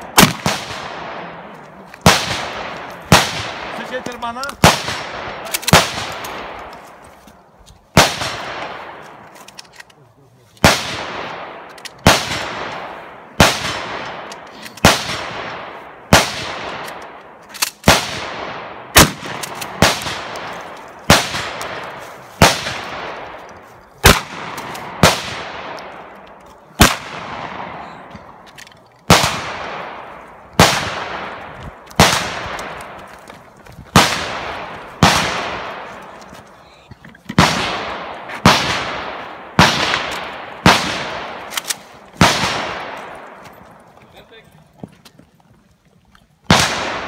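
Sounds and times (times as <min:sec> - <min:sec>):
shotgun shots echoing: 0:00.0 - 0:07.0, 0:07.9 - 0:09.3, 0:10.6 - 0:33.2, 0:33.9 - 0:36.6, 0:37.3 - 0:43.6, 0:46.5 - 0:47.0.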